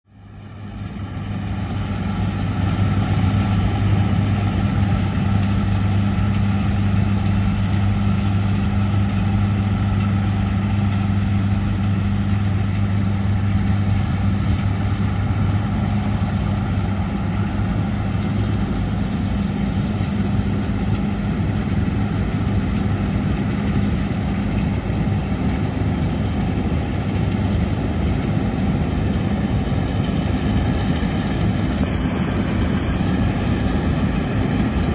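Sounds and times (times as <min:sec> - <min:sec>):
harvester diesel engine humming: 0:00.1 - 0:34.9.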